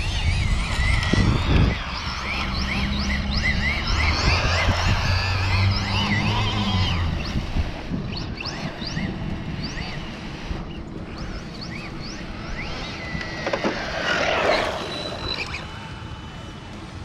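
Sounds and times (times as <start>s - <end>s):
electric motor whining: 0.0s - 17.0s
rc car rushing past: 0.0s - 17.0s.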